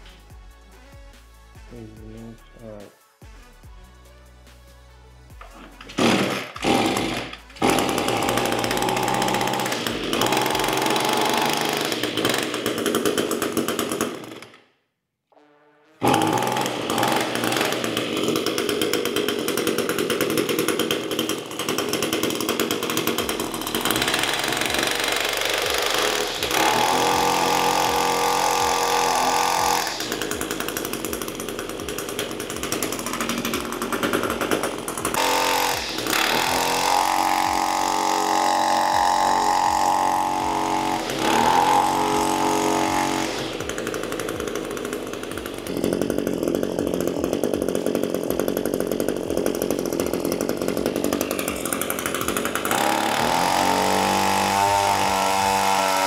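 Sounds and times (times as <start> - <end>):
string trimmer engine revving: 5.4 - 14.6, 16.0 - 56.0.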